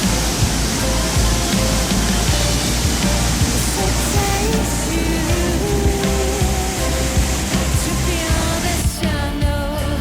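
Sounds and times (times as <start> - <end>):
waterfall rushing: 0.0 - 9.0
background music with low beat: 0.0 - 10.0.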